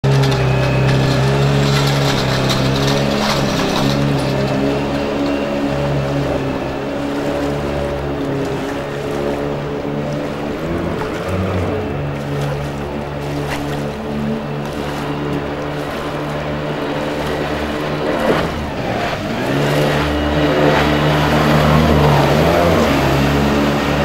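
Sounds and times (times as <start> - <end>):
jet boat engine at high revs: 0.0 - 24.0.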